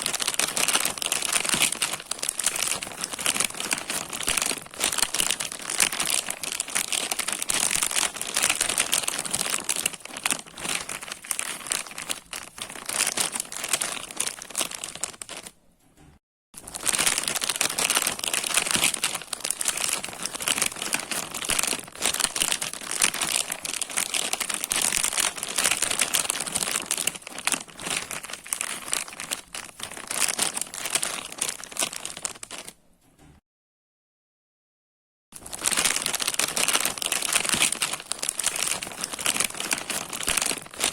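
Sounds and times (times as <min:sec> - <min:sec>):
plastic bag crinkling: 0:00.0 - 0:15.6, 0:16.6 - 0:32.8, 0:35.4 - 0:40.9.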